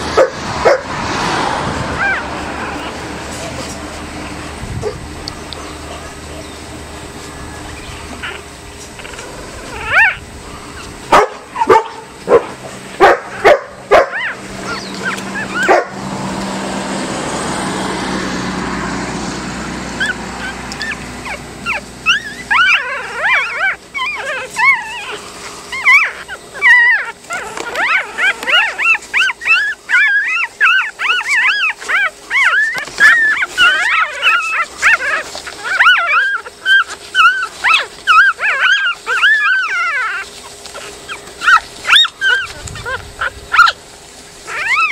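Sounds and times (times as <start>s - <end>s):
puppies squeaking and whimpering: 0.0s - 17.2s, 19.7s - 44.9s.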